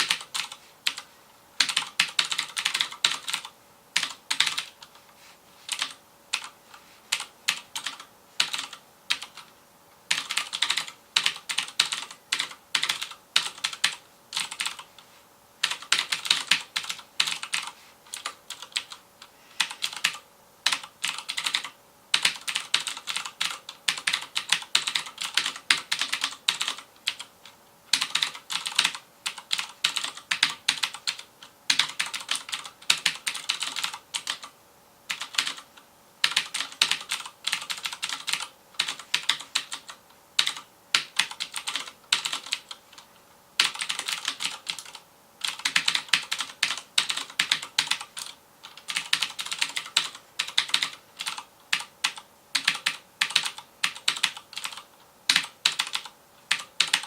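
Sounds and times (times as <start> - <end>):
mechanical keyboard typing: 0.0 - 5.0, 5.7 - 6.5, 7.1 - 9.5, 10.1 - 14.9, 15.6 - 19.0, 19.6 - 34.5, 35.1 - 57.0.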